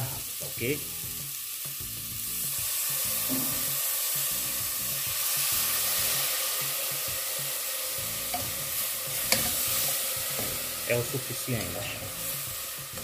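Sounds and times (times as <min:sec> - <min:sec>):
onions sizzling in hot fat: 0:00.0 - 0:13.0.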